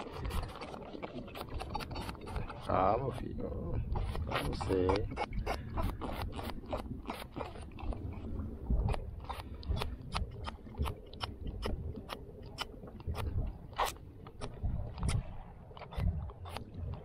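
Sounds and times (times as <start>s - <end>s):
sharp clicks and crunches: 0.0s - 17.0s.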